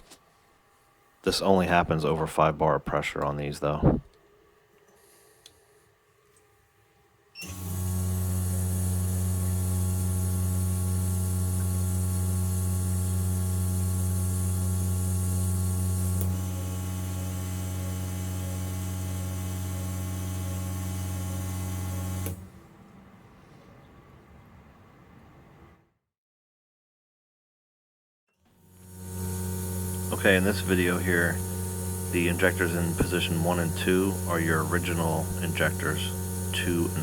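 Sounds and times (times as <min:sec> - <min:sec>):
test bench mechanical hum: 0:00.0 - 0:25.8, 0:28.5 - 0:37.0.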